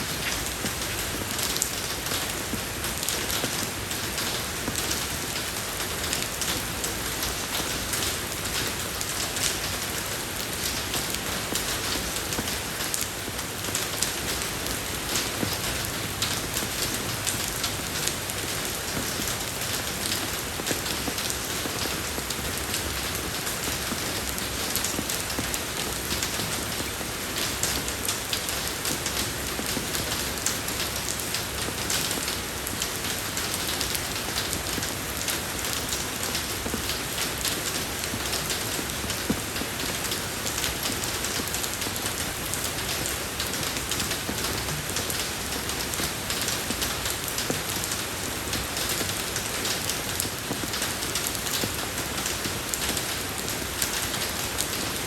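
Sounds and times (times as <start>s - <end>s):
rain falling on a road: 0.0s - 55.0s.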